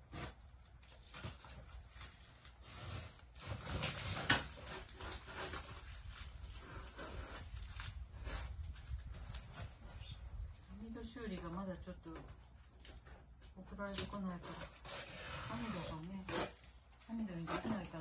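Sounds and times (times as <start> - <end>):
high-pitched insect chirr: 0.0 - 18.0.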